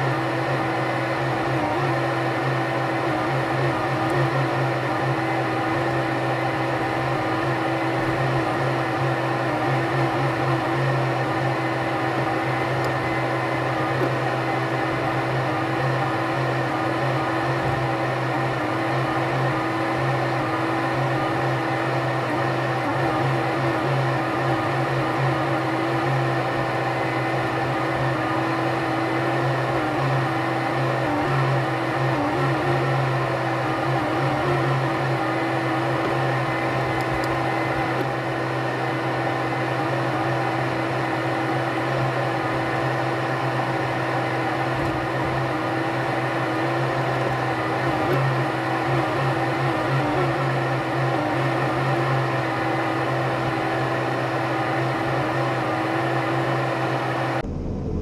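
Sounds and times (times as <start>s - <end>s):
harvester engine and hydraulics drone: 0.0s - 58.0s.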